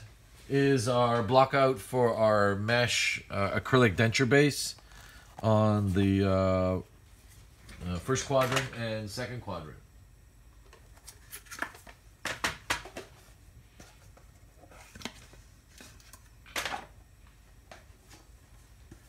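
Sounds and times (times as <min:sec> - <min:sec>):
faint low room hum: 0:00.0 - 0:19.0.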